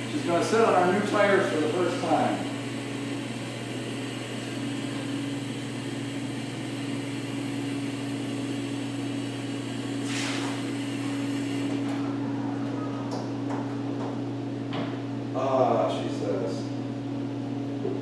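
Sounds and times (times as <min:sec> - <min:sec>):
car lift mechanical hum: 0:00.0 - 0:15.5
steady whine: 0:00.0 - 0:16.7.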